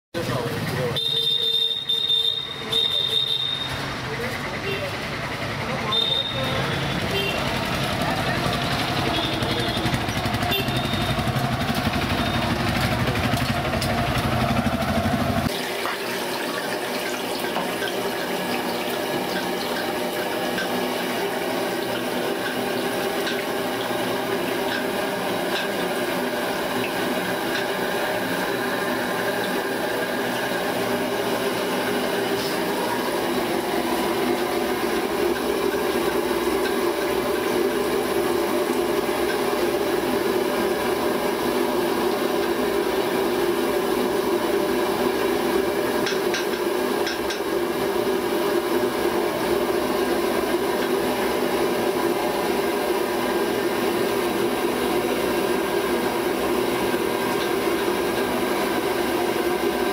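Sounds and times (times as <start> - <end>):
gas burner roaring: 0.2 - 59.9.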